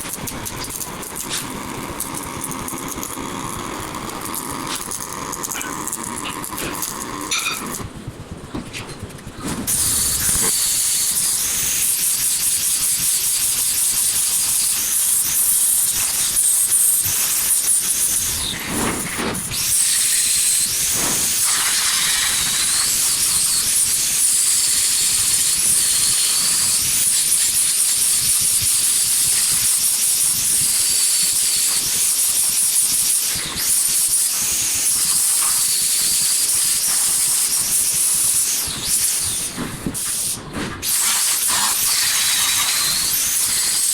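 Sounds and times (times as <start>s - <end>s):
welding arc hissing: 0.0s - 8.0s, 8.7s - 43.9s.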